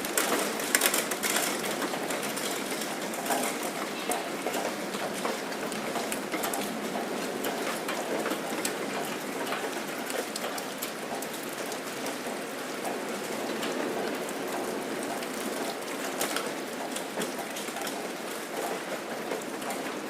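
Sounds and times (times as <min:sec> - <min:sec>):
steady rain pattering: 0:00.0 - 0:20.0.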